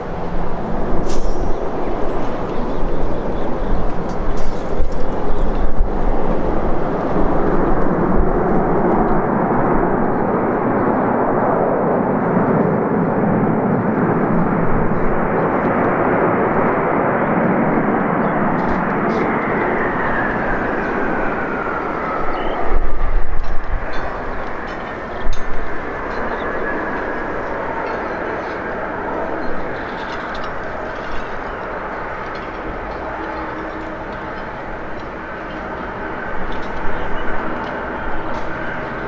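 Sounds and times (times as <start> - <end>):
jet engine whine falling: 0.0 - 39.0
jet engines roaring: 0.0 - 39.0.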